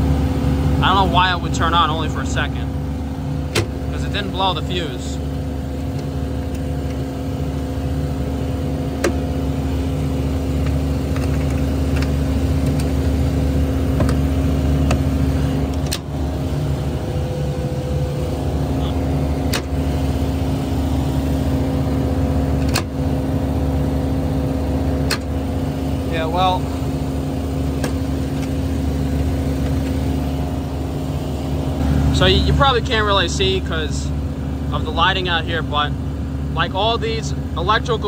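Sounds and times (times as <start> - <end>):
refrigeration units humming: 0.0 - 38.0.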